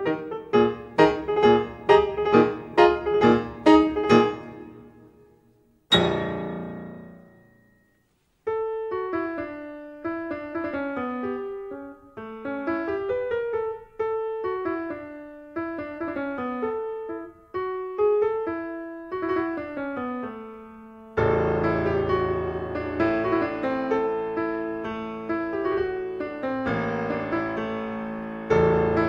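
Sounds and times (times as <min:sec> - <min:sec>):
gentle piano music: 0:00.0 - 0:29.0.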